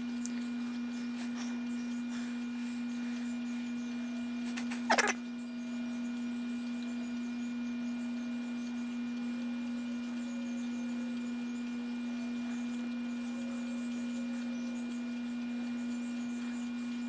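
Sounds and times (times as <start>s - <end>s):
toaster electrical hum: 0.0s - 17.0s.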